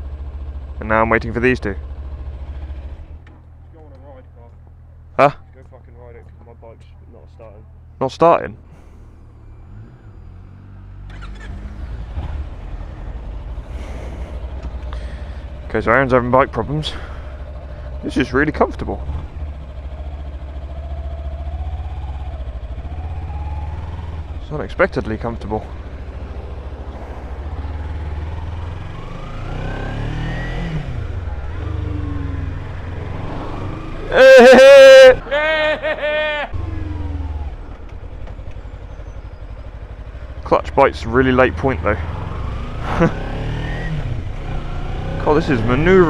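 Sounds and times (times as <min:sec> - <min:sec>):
road noise: 0:00.0 - 0:46.0
motorcycle engine pulling away: 0:08.7 - 0:46.0.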